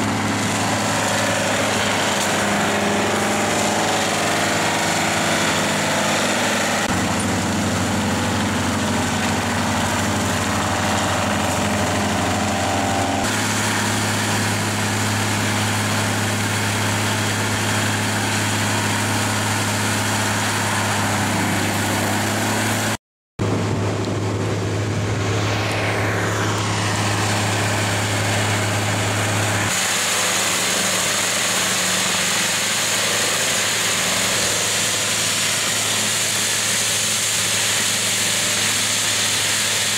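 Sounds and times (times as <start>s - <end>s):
mulcher shredding brush: 0.0s - 39.9s
tractor engine drone: 0.0s - 39.9s.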